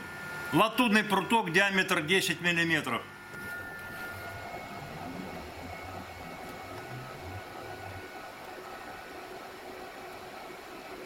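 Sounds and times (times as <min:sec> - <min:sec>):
faint high whine: 0:00.0 - 0:11.0
induction heater whirring: 0:00.0 - 0:11.0.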